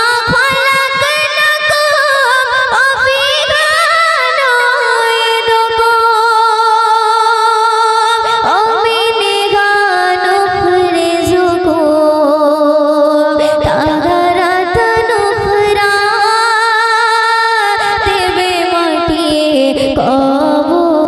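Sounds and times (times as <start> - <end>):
woman singing into microphone: 0.0 - 21.0.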